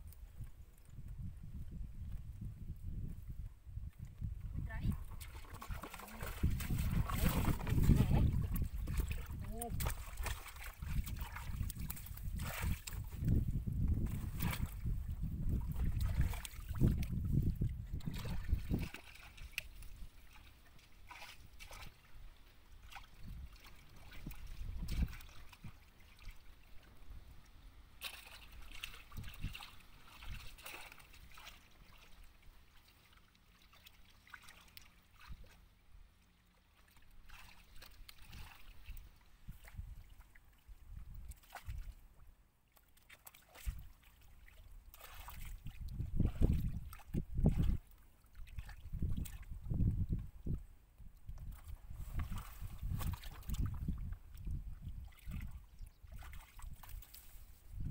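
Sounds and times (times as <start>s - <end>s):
muddy water sloshing: 3.8s - 57.9s
small splashes: 5.0s - 42.0s, 42.6s - 49.8s, 51.3s - 57.7s.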